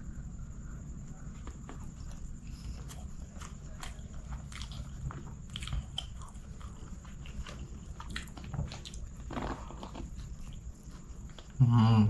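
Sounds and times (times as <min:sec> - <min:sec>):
chewing food: 0:01.3 - 0:11.6.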